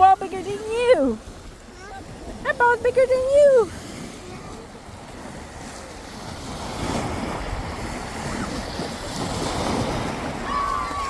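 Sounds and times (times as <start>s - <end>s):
small waves washing: 0.0s - 11.0s
wind on microphone: 0.0s - 11.0s.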